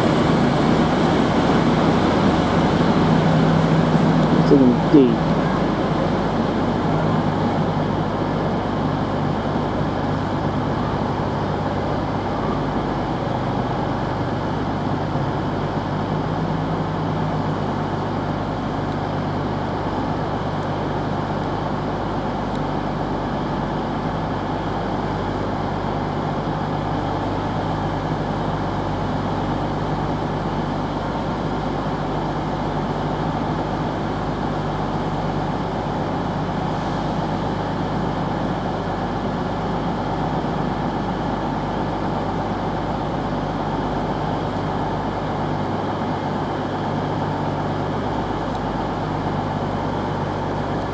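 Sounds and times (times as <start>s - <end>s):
train diesel engines droning: 0.0s - 50.9s.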